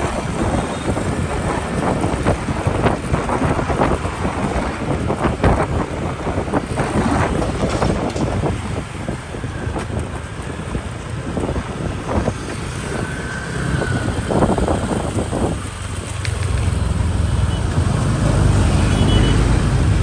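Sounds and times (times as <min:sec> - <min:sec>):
motorbike engine and road rumble: 0:00.0 - 0:20.0
wind on microphone: 0:00.0 - 0:20.0.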